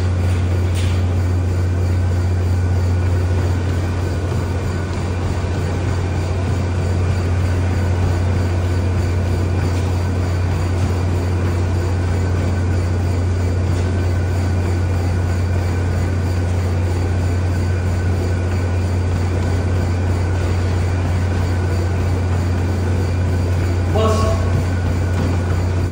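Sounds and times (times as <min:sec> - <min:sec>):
treadmill running: 0:00.0 - 0:25.9.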